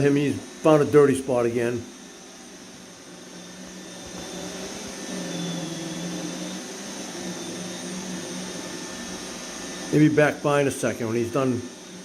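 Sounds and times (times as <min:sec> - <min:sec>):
robot vacuum running on carpet: 0:00.0 - 0:12.0.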